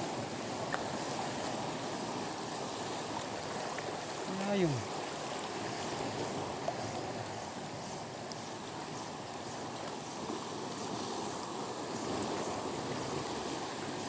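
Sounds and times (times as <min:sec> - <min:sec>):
sea water lapping at shoreline: 0:00.0 - 0:14.0.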